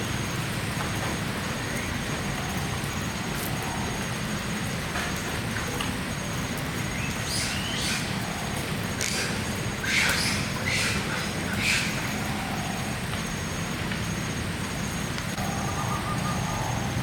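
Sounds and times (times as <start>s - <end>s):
heavy rain downpour: 0.0s - 17.0s.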